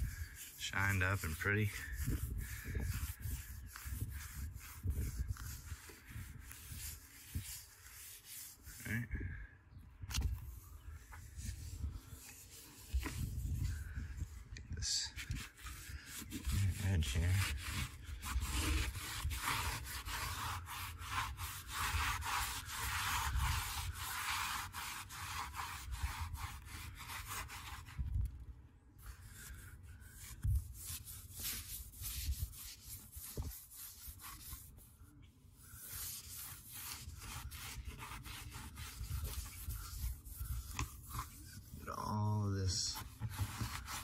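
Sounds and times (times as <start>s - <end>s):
cloth rubbing on boat hull: 0.0s - 8.9s, 10.3s - 14.3s, 15.2s - 28.2s, 29.0s - 35.0s, 35.8s - 41.9s, 42.8s - 44.0s.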